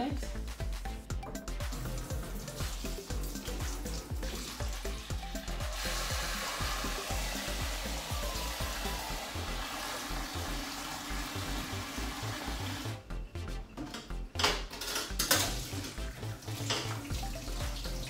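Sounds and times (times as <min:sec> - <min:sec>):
background music with beat: 0:00.0 - 0:18.0.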